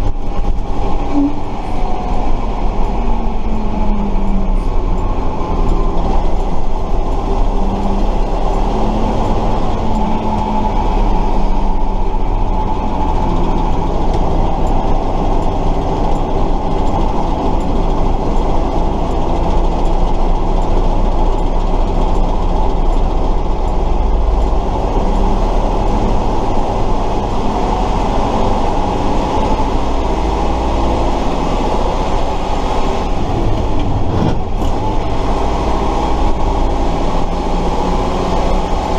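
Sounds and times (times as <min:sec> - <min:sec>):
truck diesel engine drone: 0:00.0 - 0:38.9.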